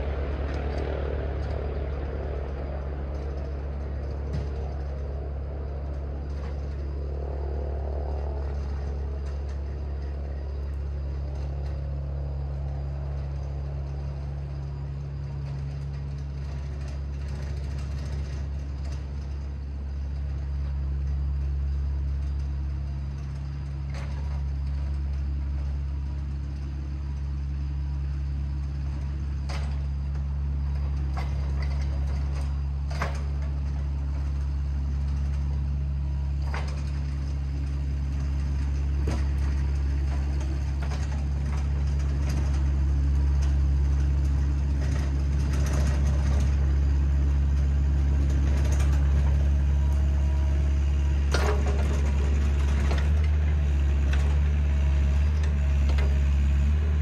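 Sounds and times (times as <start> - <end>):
steady low drone: 0.0 - 57.0.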